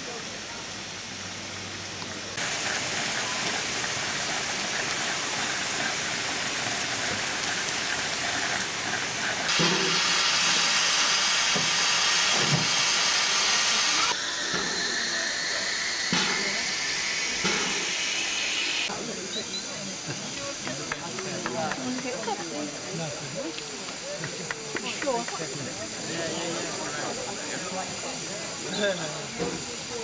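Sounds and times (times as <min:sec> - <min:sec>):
steam hissing: 0:00.0 - 0:30.0.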